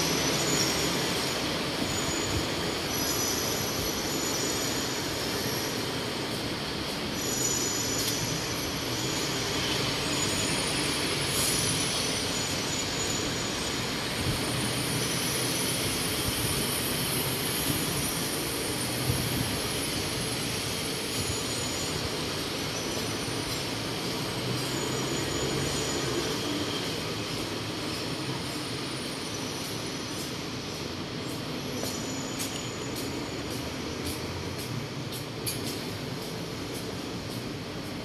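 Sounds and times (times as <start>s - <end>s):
city background noise: 0.0s - 38.0s
faint high whine: 0.0s - 38.0s.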